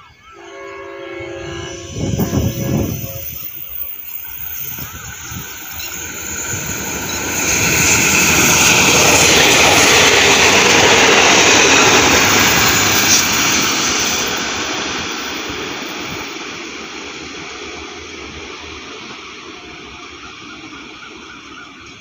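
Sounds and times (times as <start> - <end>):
diesel train passing at speed: 0.0 - 22.0.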